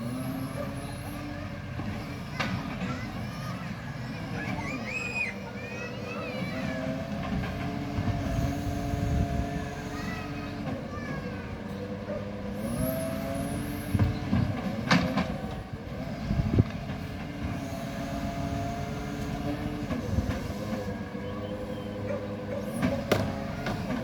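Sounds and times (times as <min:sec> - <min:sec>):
garbage truck drone: 0:00.0 - 0:24.0.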